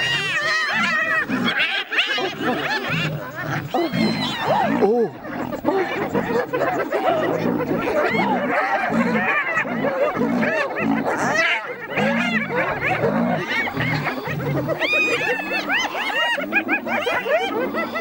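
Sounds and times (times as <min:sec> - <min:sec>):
hyenas giggling and whooping: 0:00.0 - 0:18.0.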